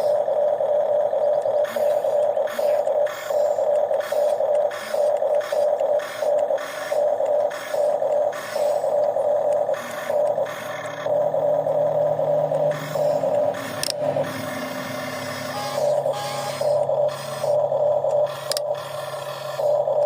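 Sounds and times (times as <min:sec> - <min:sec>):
electric motors whining: 0:00.0 - 0:20.0
low steady hum: 0:00.0 - 0:20.0.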